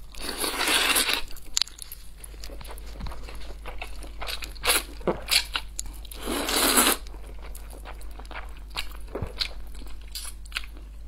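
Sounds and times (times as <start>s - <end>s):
chewing with wet mouth clicks: 0.1s - 10.9s.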